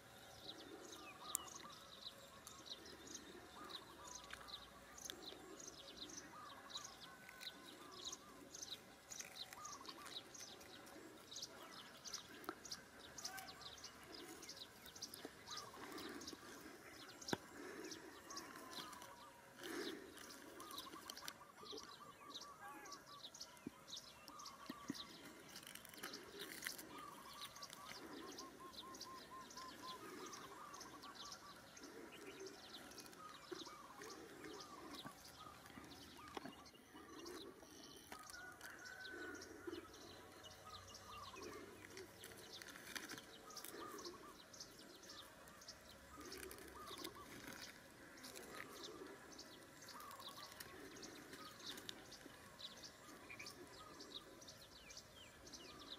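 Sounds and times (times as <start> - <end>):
faint birdsong chirps and trills: 0.0 - 55.9.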